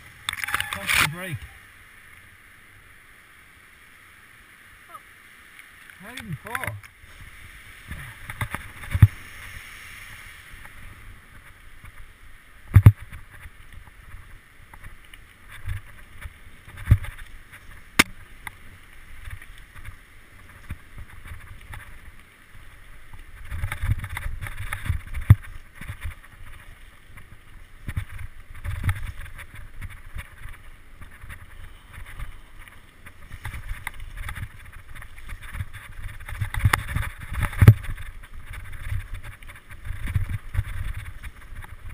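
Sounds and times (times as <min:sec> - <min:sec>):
bike tyres rumbling over stones: 0:06.0 - 0:41.9.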